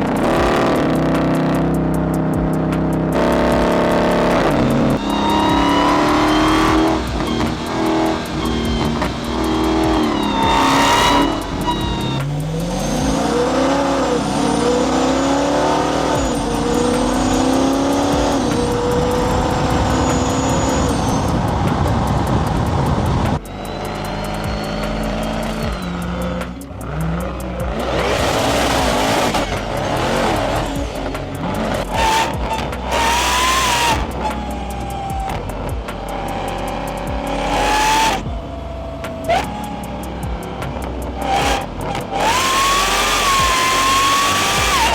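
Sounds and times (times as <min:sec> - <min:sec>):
car engine revving: 0:00.0 - 0:44.9
supercharger whine: 0:00.0 - 0:44.9.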